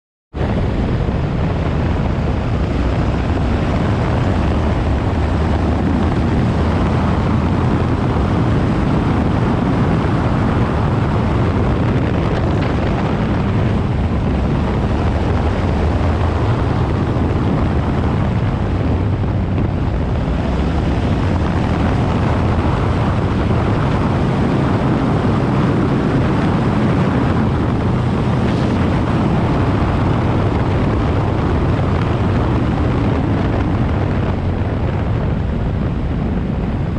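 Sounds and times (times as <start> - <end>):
wind rushing over microphone: 0.3 - 36.9
motorcycle engine running: 0.4 - 36.9.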